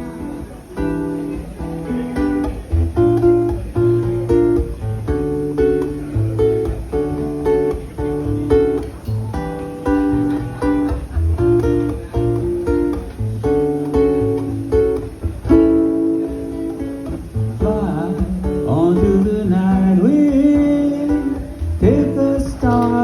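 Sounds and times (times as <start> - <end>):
acoustic guitar strumming: 0.0 - 23.0
low bass notes: 0.6 - 23.0.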